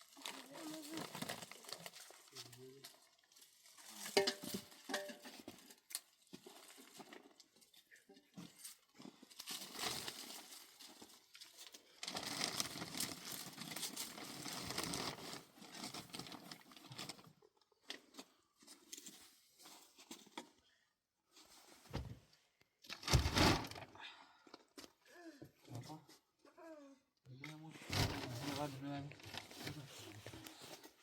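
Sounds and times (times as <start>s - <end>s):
rustling crinkling handling noise: 0.0s - 20.6s, 22.8s - 23.9s, 27.4s - 31.0s.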